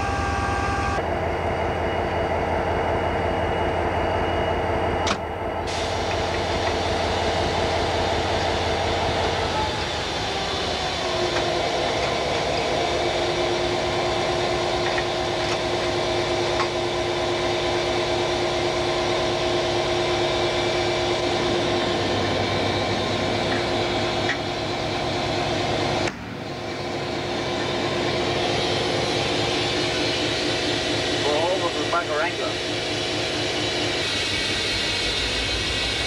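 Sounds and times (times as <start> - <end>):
diesel locomotive idling: 0.0 - 36.0.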